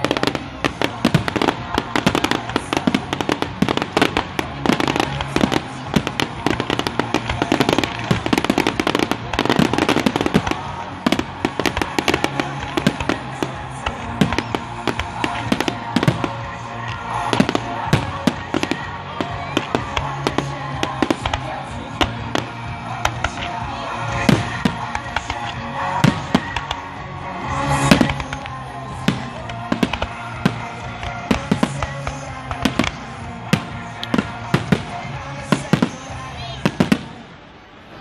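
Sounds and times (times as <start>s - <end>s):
fireworks bangs and crackling: 0.0s - 38.0s
music playing: 0.0s - 38.0s.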